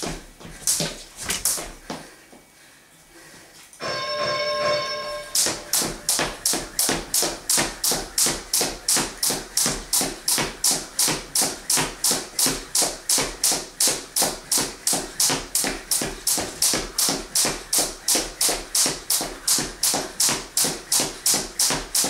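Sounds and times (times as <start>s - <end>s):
skipping rope slapping wooden floor: 0.0s - 2.0s, 5.3s - 22.0s.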